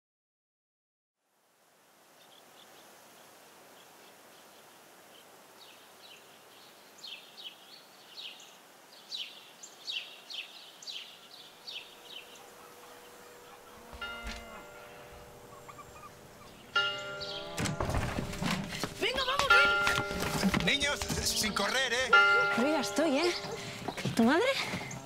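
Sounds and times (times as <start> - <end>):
steady outdoor hiss: 1.2 - 25.0
bird chirping: 2.2 - 25.0.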